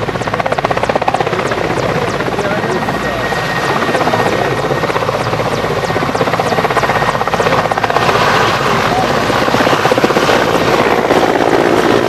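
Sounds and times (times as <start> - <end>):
helicopter engine: 0.0 - 12.0
helicopter rotor chopping: 0.0 - 12.0.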